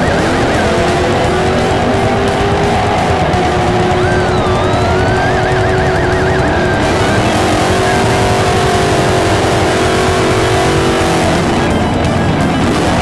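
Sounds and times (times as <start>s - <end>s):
car engine revving high: 0.0s - 13.0s
tyres spinning in burnout: 0.0s - 13.0s.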